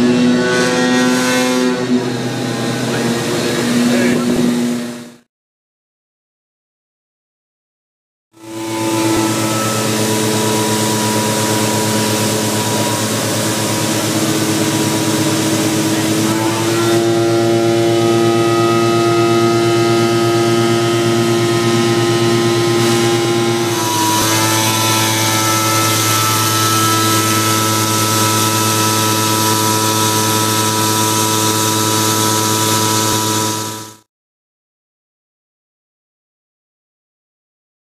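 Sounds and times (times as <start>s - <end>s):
vacuum pump droning: 0.0s - 5.2s, 8.4s - 34.0s.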